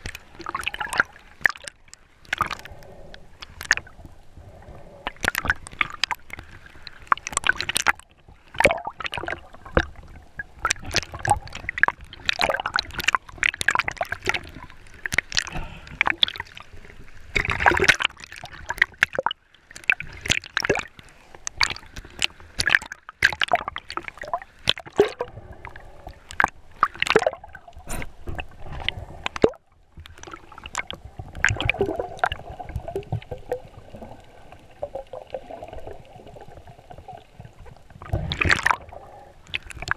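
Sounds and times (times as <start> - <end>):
splashes crackles and knocks: 0.0 - 2.8, 3.4 - 4.2, 5.0 - 39.9
underwater gurgling and sloshing: 0.0 - 39.9.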